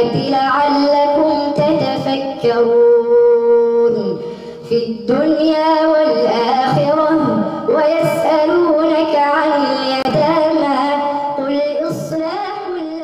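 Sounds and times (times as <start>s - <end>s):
melodic recitation by one voice: 0.0s - 13.0s.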